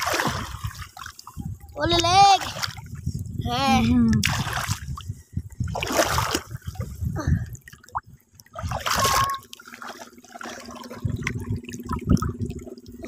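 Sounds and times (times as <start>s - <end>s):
muddy water splashing: 0.0s - 13.0s
low steady hum: 0.1s - 13.0s.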